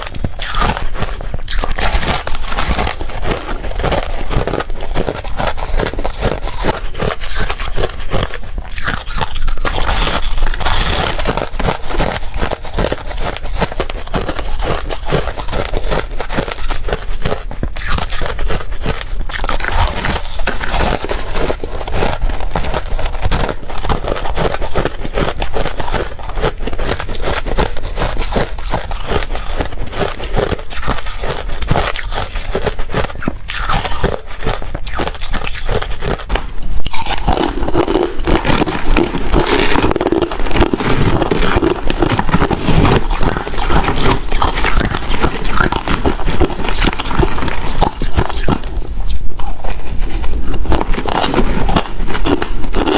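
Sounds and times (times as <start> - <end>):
chewing ice: 0.0 - 52.9.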